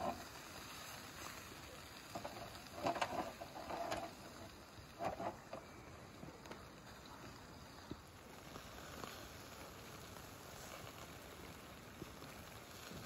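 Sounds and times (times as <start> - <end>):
fat crackling on coals: 0.0 - 13.0
meat sizzling over charcoal: 0.0 - 13.0.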